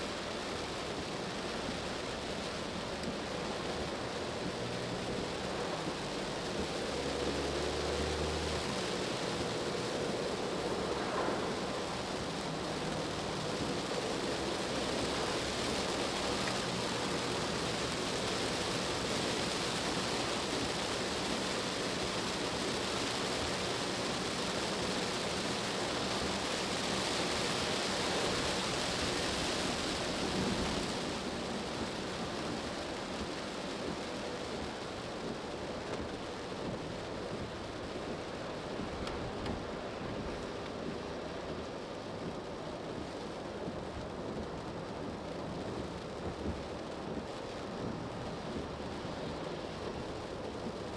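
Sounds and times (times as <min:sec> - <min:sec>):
rain: 0:00.0 - 0:50.9
tyres hissing on wet road: 0:00.0 - 0:50.9.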